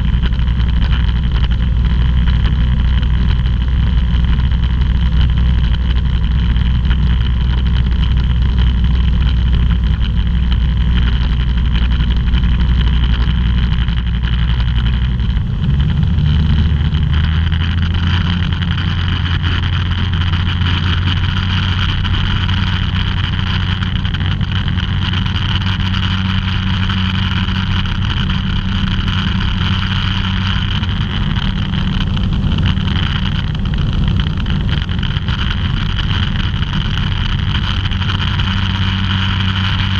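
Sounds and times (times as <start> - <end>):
ultralight aircraft engine and propeller: 0.0 - 39.9.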